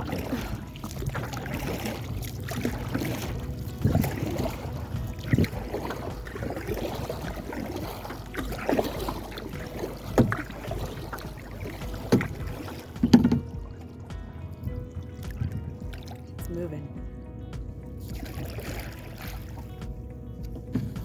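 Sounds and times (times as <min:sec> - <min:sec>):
paddle knocking on hull: 0:00.0 - 0:21.0
water washing: 0:00.0 - 0:21.0.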